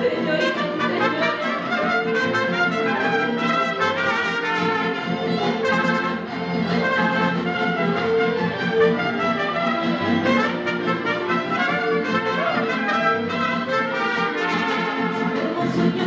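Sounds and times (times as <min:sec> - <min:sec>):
strummed acoustic guitars: 0:00.0 - 0:16.0
trumpets playing melody: 0:00.5 - 0:15.5.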